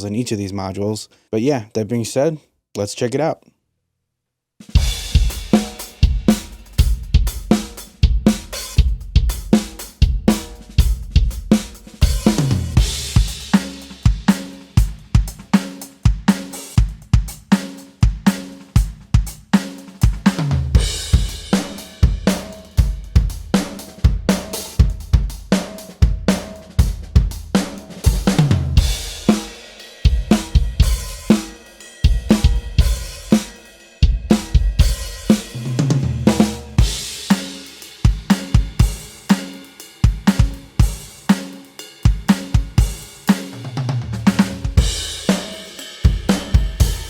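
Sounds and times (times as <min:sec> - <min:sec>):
electronic drum kit beat: 0:04.7 - 0:47.0.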